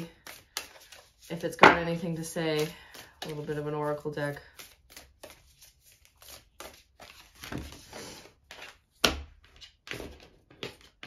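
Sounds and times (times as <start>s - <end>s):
cards being shuffled: 0.1s - 11.0s.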